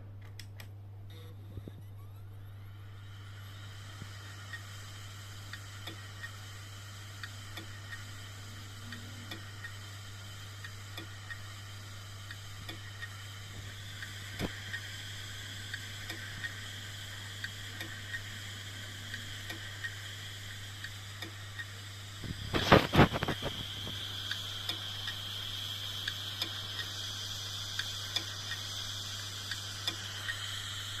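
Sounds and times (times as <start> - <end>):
drive hum and high whine: 0.0 - 31.0
hard disk drive clicking: 5.4 - 31.0.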